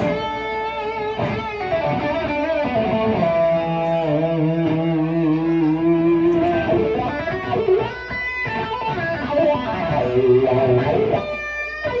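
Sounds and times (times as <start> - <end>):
electric guitar playing: 0.0 - 12.0.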